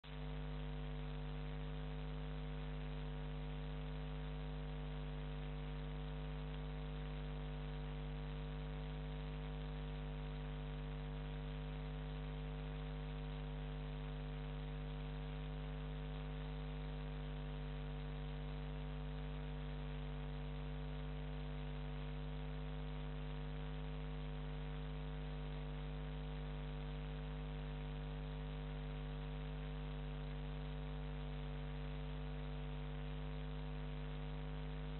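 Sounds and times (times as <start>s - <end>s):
electrical mains hum with hiss: 0.1s - 34.9s.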